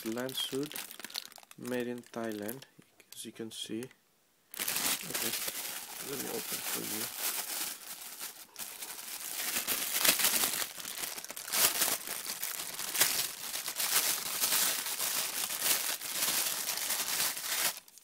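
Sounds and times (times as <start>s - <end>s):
plastic wrapping crinkling: 0.0s - 2.7s, 4.5s - 18.0s.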